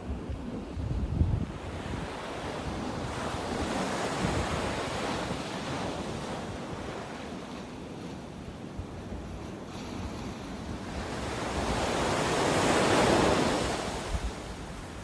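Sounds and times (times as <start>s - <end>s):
sea surf washing on shore: 0.0s - 15.0s
wind buffeting microphone: 0.0s - 15.0s.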